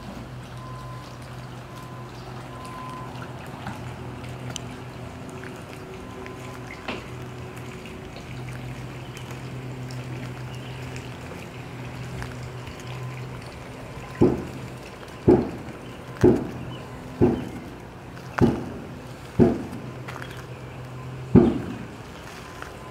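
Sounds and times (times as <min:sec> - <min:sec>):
water trickling: 0:00.0 - 0:22.9.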